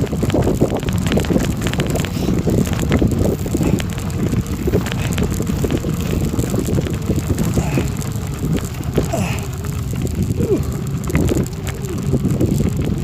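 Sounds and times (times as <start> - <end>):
rattling clicks of gravel: 0.0 - 13.0
steady rumble: 0.0 - 13.0
wind buffeting microphone: 0.0 - 13.0.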